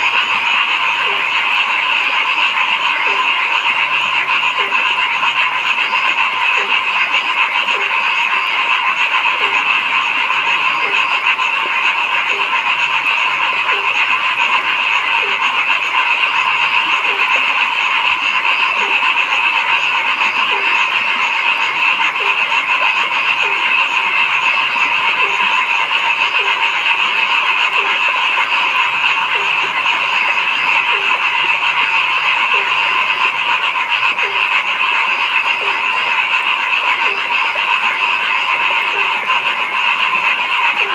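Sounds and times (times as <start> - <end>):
chorus of frogs calling: 0.0 - 40.9
low frog croak: 0.0 - 40.9.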